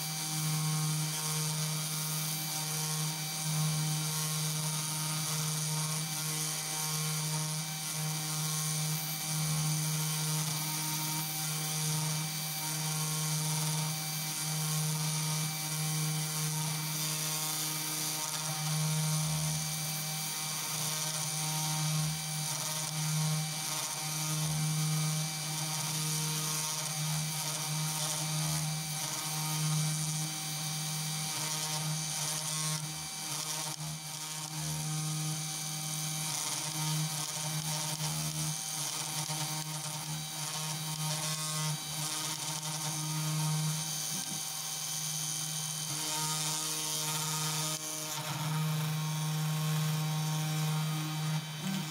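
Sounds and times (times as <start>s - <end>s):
router spindle motor hum: 0.0s - 51.9s.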